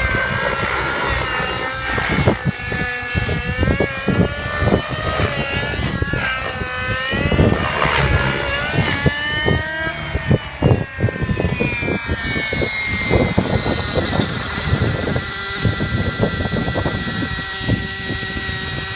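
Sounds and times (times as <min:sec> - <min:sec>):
rc helicopter engine and rotors: 0:00.0 - 0:18.9
wind buffeting microphone: 0:00.0 - 0:18.9.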